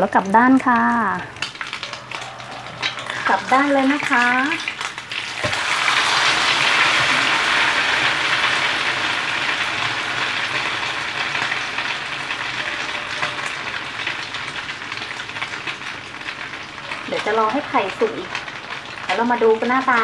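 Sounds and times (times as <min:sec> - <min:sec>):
omelet sizzling in hot oil: 0:00.0 - 0:20.0.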